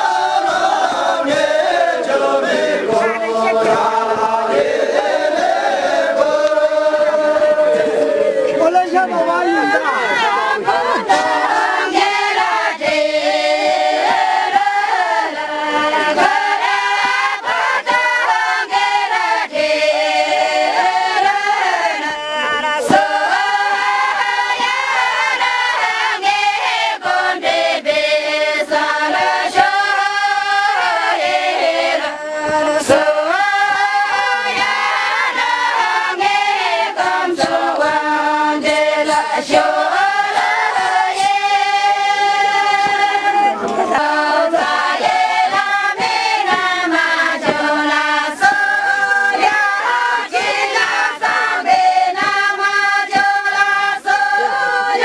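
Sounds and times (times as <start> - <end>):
women singing in unison: 0.0 - 55.0.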